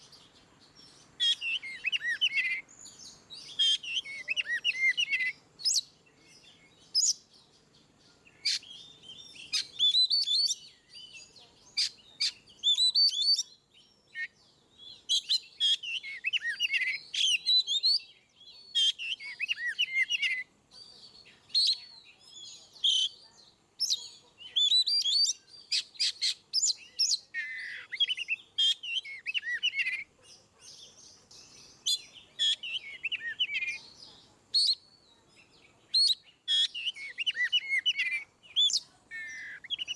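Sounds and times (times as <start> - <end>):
bird singing whistled phrases: 0.0 - 7.2, 8.3 - 23.2, 23.8 - 30.1, 30.7 - 39.9.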